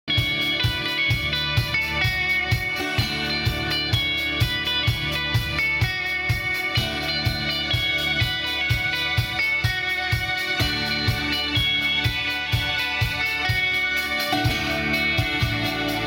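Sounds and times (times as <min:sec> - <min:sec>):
acoustic guitar: 0:00.1 - 0:16.0
electric guitar: 0:00.1 - 0:16.0
live band playing: 0:00.1 - 0:16.0
steady beat: 0:00.1 - 0:16.0.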